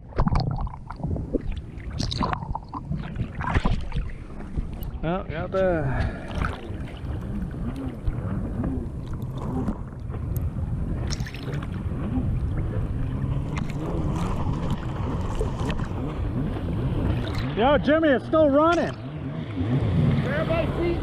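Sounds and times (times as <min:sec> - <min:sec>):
water churning and sloshing: 0:00.0 - 0:21.0
jet ski engine running: 0:01.1 - 0:21.0.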